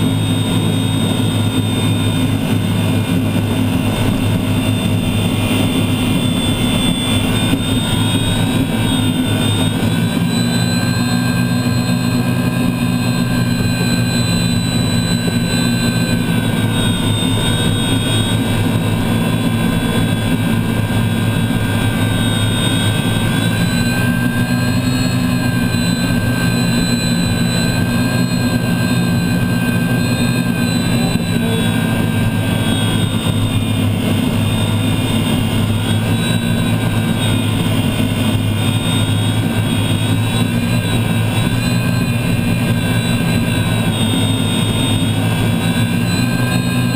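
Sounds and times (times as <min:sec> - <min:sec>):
gas turbine engine whine: 0:00.0 - 0:46.9.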